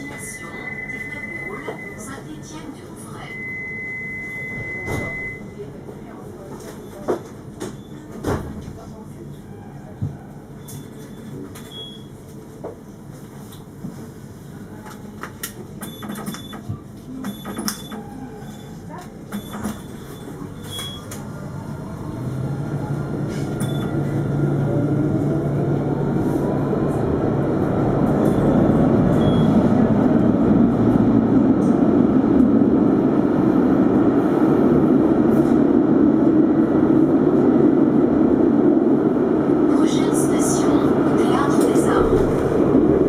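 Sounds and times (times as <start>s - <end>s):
tram wheel-on-rail noise: 0.0s - 43.0s.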